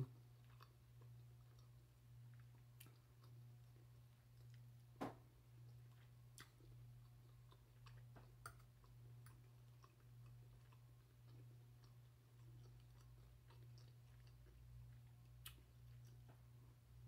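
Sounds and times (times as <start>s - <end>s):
low steady hum: 0.0s - 17.0s
quiet chewing: 0.0s - 17.0s.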